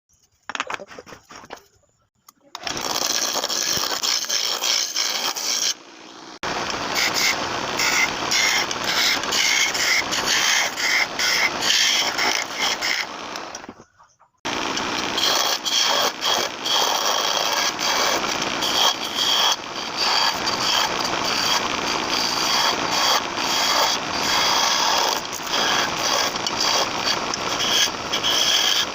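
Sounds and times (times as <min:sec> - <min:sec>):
chisel scraping spinning wood: 0:02.6 - 0:13.8, 0:14.5 - 0:28.9
wood lathe whining: 0:02.6 - 0:13.8, 0:14.5 - 0:28.9.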